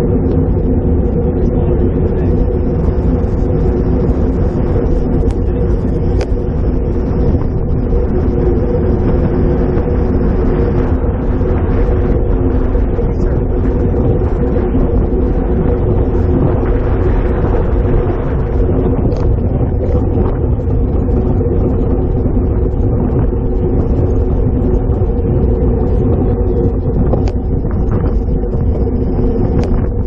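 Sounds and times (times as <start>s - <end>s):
steady low hum: 0.0s - 30.0s
wind rushing over microphone: 0.0s - 30.0s.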